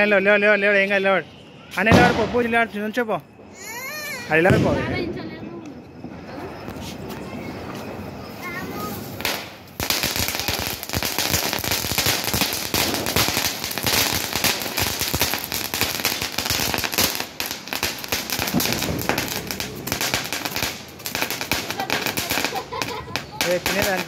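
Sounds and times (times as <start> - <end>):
firecrackers crackling: 1.7 - 24.0.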